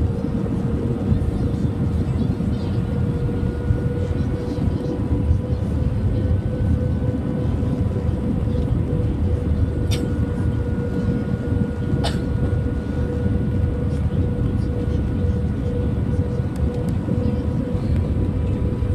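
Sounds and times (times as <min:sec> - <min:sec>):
airplane cabin engine rumble: 0:00.0 - 0:18.9.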